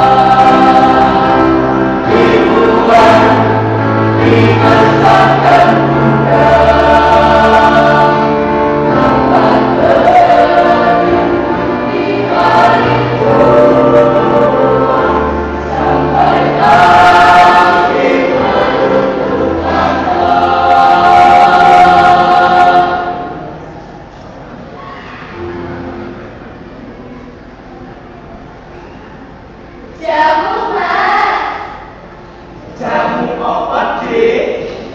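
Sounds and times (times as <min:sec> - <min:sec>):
choir singing in harmony: 0:00.0 - 0:24.3, 0:29.9 - 0:34.7.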